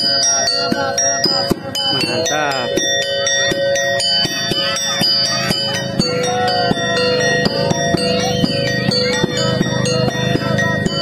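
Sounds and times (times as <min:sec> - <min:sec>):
bell-like metal tones: 0:00.0 - 0:11.0
drum beats: 0:00.0 - 0:11.0
wavering melody line: 0:00.0 - 0:11.0.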